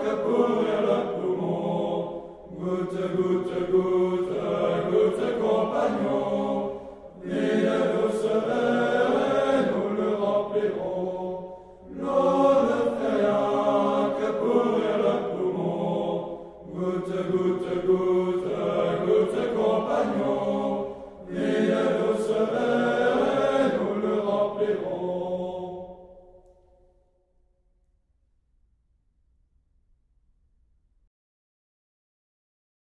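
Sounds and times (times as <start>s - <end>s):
group of voices singing: 0.0s - 26.4s.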